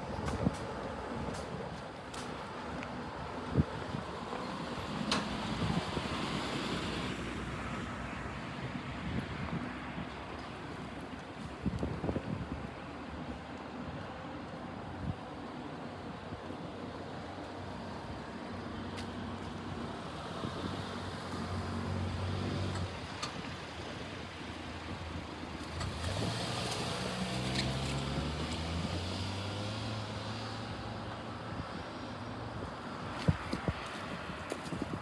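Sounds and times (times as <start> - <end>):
traffic noise: 0.0 - 35.0.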